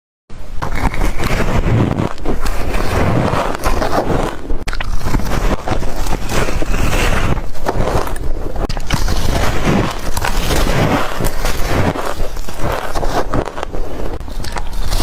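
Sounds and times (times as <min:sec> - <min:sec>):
ice being chewed crunching: 0:00.6 - 0:15.0.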